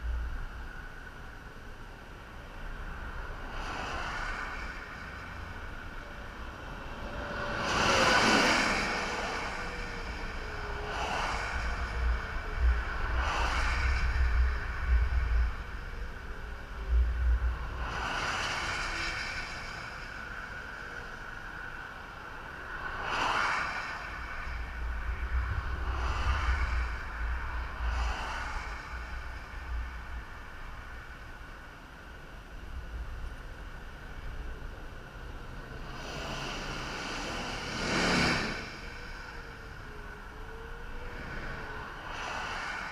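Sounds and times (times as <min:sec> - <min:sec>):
vehicles passing: 0:00.0 - 0:42.9
wind rumbling on microphone: 0:00.0 - 0:42.9.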